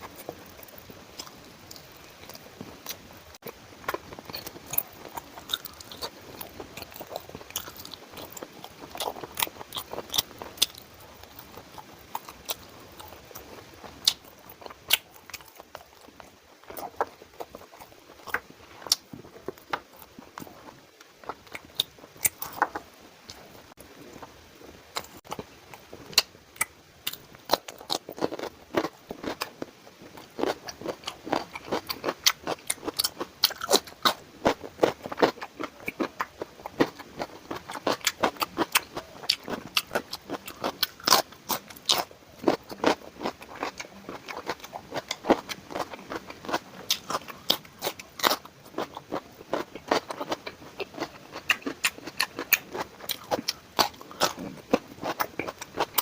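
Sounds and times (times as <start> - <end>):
person chewing: 0.0 - 24.3, 24.9 - 56.0.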